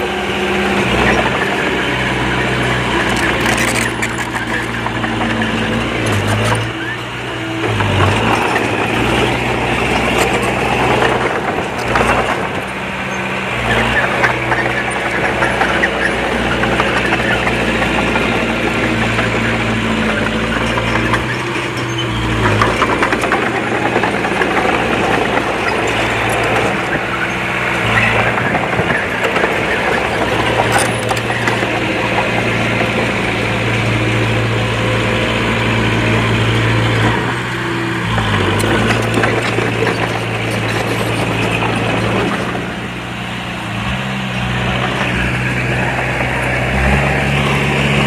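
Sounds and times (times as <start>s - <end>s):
heavy diesel engine under load: 0.0s - 48.0s
machinery clanking and rattling: 0.0s - 48.0s.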